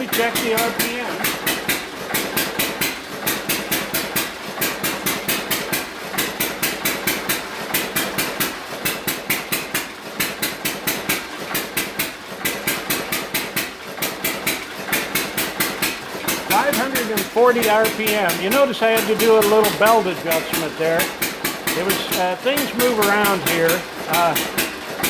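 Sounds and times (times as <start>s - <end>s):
single-cylinder engine firing: 0.0s - 25.0s.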